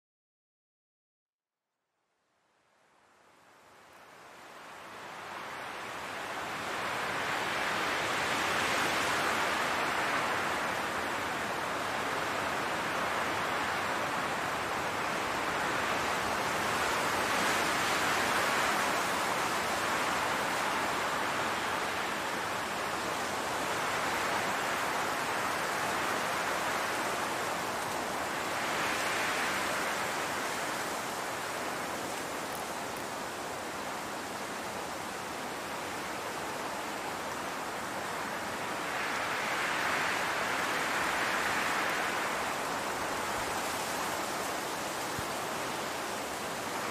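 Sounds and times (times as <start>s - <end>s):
wind blowing across grass: 2.6s - 46.9s.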